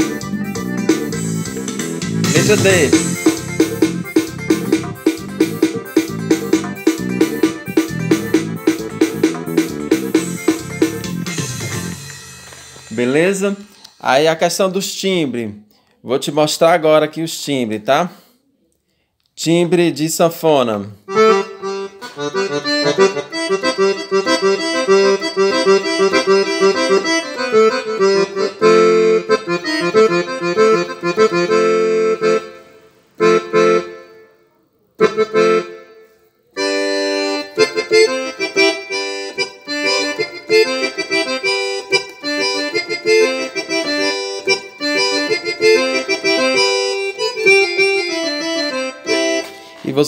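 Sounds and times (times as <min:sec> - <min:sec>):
keyboard accordion melody: 0:00.0 - 0:14.1, 0:21.1 - 0:50.0.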